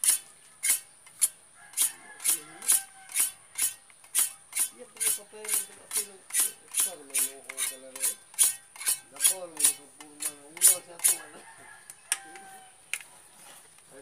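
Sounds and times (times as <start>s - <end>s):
hacksaw cutting plastic pipe: 0.0s - 11.3s.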